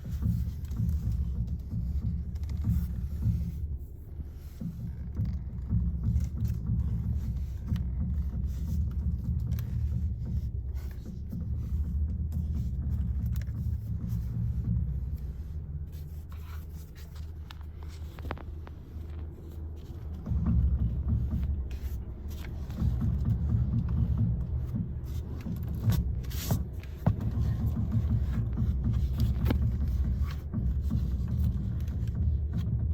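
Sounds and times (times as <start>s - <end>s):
car engine running: 0.0s - 32.9s.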